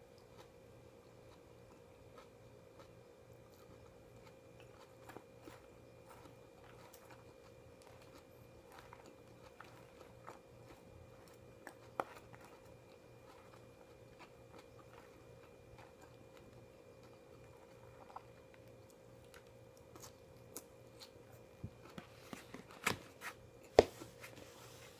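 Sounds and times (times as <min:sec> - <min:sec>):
faint hum: 0:00.0 - 0:24.9.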